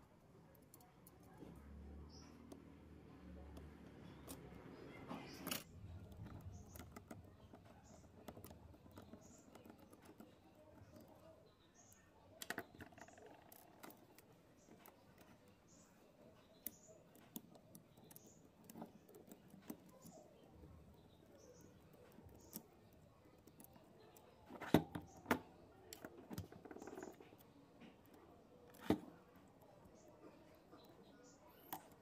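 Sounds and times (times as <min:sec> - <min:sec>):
small tools clicking and tapping: 0:00.5 - 0:32.0.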